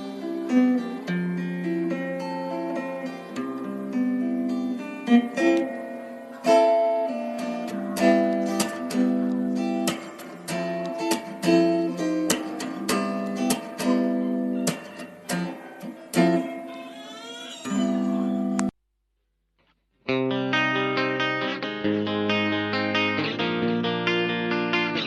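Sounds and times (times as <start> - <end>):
acoustic guitar music: 0.0 - 18.7, 20.0 - 25.0.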